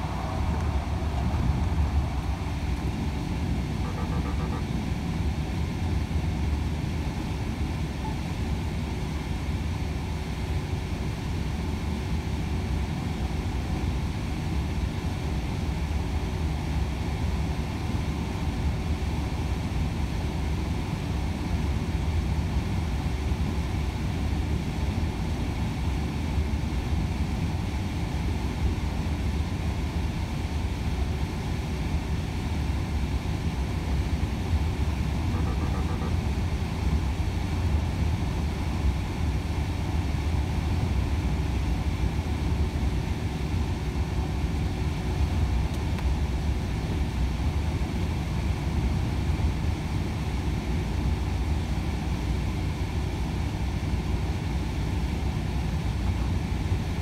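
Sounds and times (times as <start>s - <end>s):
truck diesel engine drone: 0.0s - 57.0s.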